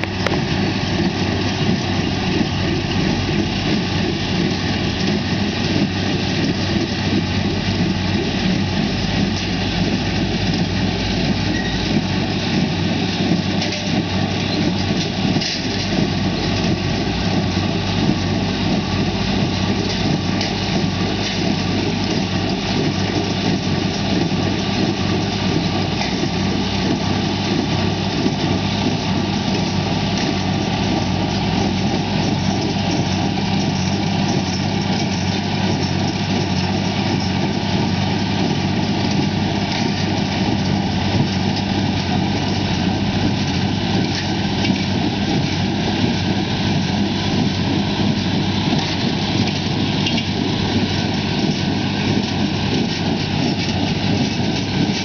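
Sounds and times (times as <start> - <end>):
hay baler: 0.0 - 55.0
tractor diesel engine running: 0.0 - 55.0.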